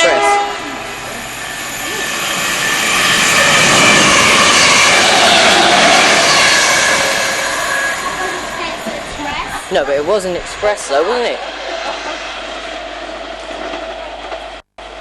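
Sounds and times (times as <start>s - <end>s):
express train passing: 0.0s - 15.0s.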